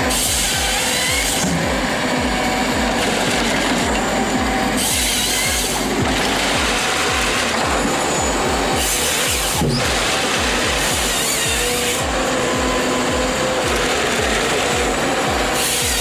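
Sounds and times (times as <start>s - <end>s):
background music with low beat: 0.0s - 16.0s
woodworking machinery noise: 0.0s - 16.0s.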